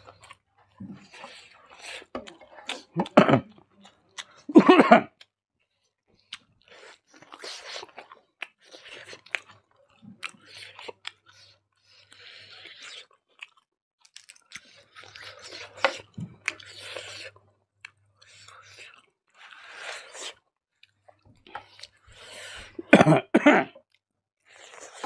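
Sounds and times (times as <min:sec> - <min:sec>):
close chewing and lip smacks: 0:00.0 - 0:04.5, 0:05.1 - 0:22.9, 0:23.8 - 0:25.0.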